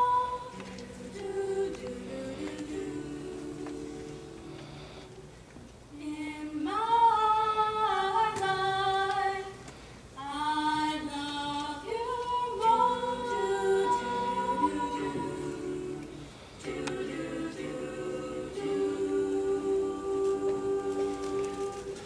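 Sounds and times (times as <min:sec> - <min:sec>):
girls singing a cappella: 0:00.0 - 0:05.3, 0:05.9 - 0:22.0
lower harmony voices: 0:00.0 - 0:22.0.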